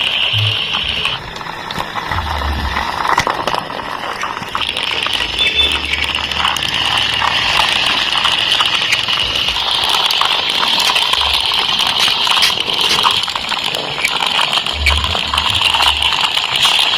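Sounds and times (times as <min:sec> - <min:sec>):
toy clicks and rattle: 0:02.8 - 0:16.9.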